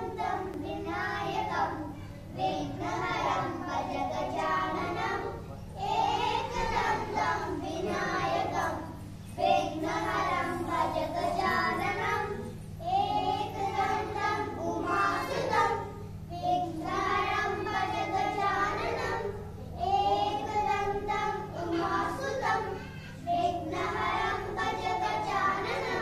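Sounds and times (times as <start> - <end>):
children singing together: 0.0 - 26.0.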